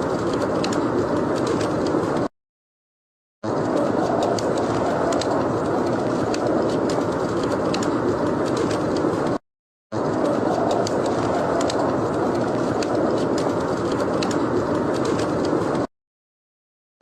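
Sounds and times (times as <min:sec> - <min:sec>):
fire crackling with sharp pops: 0:00.0 - 0:02.3, 0:03.5 - 0:09.4, 0:10.0 - 0:15.9.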